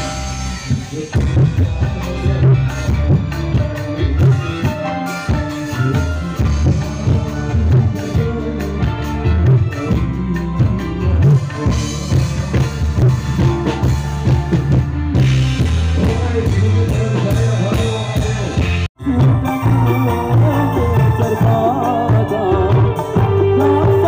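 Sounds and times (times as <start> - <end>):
drum kit and heavy bass: 0.0 - 24.0
live band music over loudspeakers: 0.0 - 24.0.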